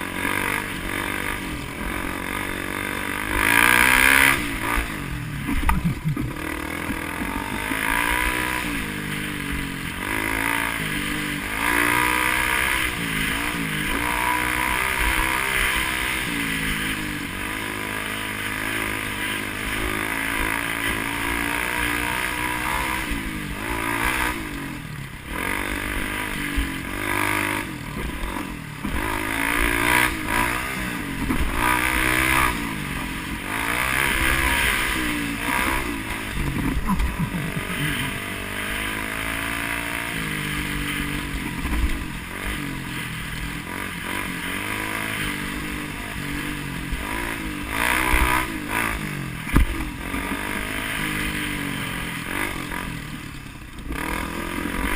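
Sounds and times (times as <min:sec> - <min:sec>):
road and wind noise: 0:00.0 - 0:54.9
vehicle engine revving: 0:00.0 - 0:54.9.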